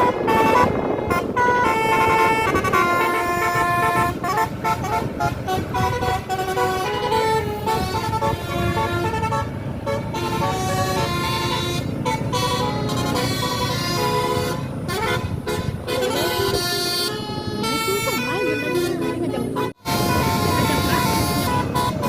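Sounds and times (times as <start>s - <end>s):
bus multi-tone air horn melody: 0.0s - 22.0s.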